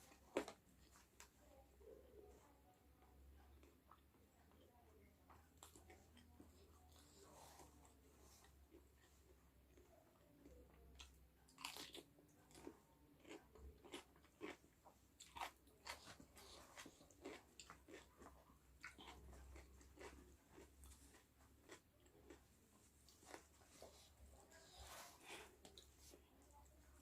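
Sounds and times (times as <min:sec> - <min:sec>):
crunching and chewing fried chicken: 0:00.0 - 0:01.3, 0:03.0 - 0:27.0.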